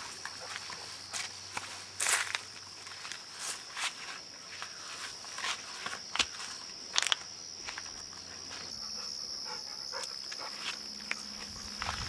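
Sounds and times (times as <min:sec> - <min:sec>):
footsteps crunching through dry grass: 0:00.0 - 0:08.8, 0:10.3 - 0:12.0
insects droning: 0:00.0 - 0:12.0.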